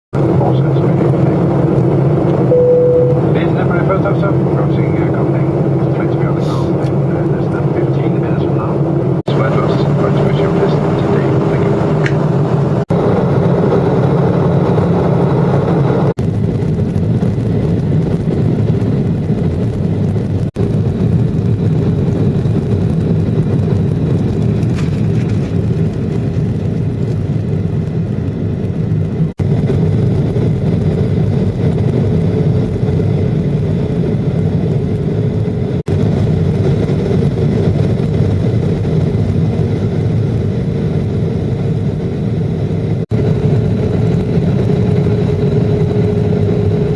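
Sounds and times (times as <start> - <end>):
jet cabin engine rumble: 0.2 - 46.9.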